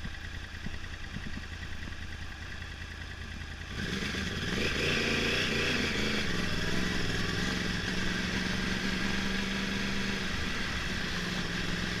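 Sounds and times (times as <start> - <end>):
motorcycle engine idling with misfire: 0.0 - 12.0.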